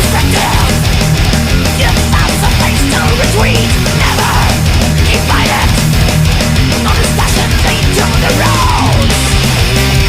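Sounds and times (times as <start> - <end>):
heavy metal music: 0.0 - 10.0.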